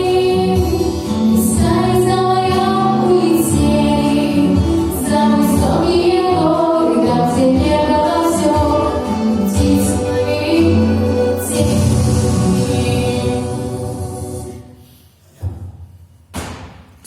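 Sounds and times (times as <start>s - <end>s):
woman singing: 0.0s - 14.4s
backing music: 0.0s - 15.7s.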